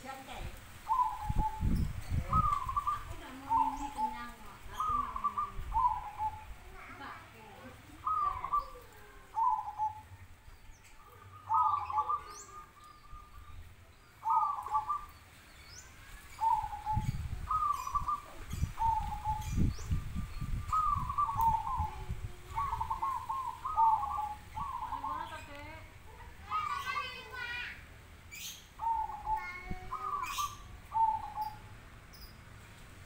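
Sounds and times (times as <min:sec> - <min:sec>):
doves cooing: 0:00.7 - 0:27.7, 0:28.3 - 0:31.8.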